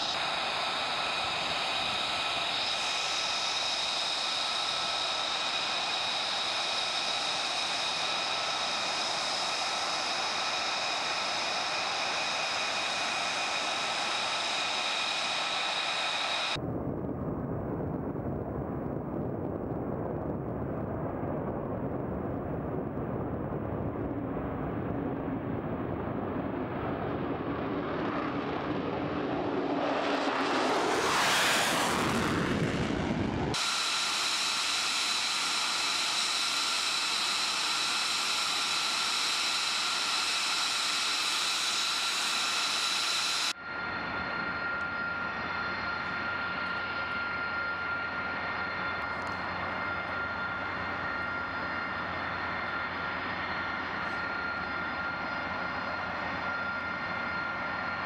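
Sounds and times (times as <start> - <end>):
jet engine whining: 0.0 - 16.6, 20.6 - 58.0
jet deep rumble: 0.0 - 58.0.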